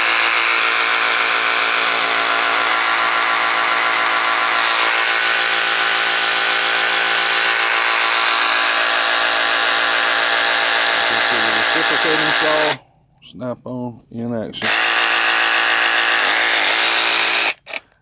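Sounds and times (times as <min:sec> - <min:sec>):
reciprocating saw whirring: 0:00.0 - 0:12.8, 0:14.6 - 0:17.9.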